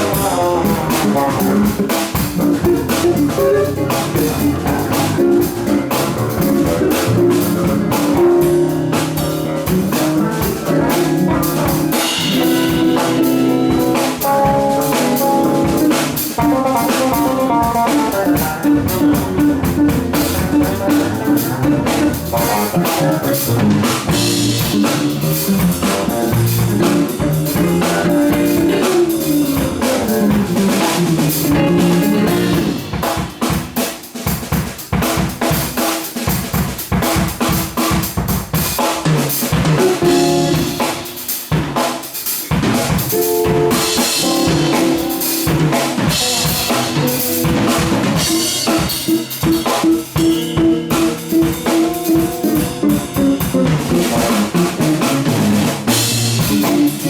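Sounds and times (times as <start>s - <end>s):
bass line: 0.0s - 33.6s, 39.5s - 41.2s, 42.6s - 57.0s
drum kit: 0.0s - 57.0s.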